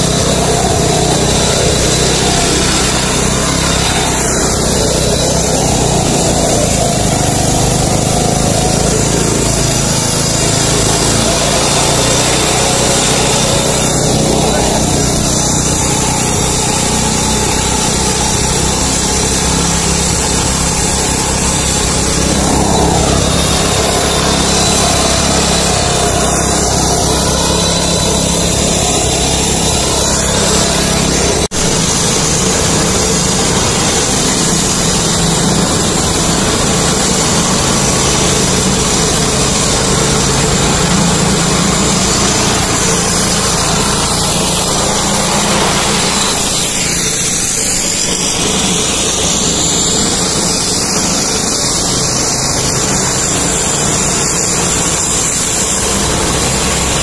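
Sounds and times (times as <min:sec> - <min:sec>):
concrete saw cutting road: 0:00.0 - 0:57.0.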